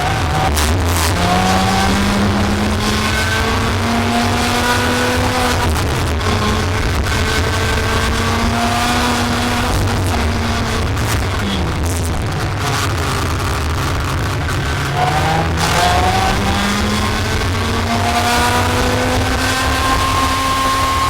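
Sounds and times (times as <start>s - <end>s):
racing kart engine revving: 0.0s - 21.0s.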